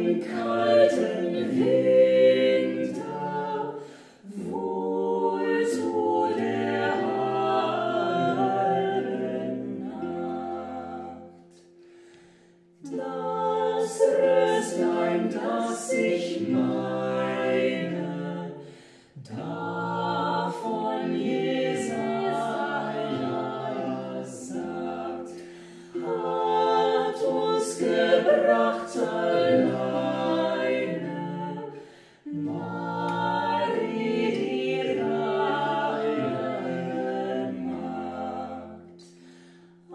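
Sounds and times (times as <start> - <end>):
choir singing a carol unaccompanied: 0.0 - 39.9.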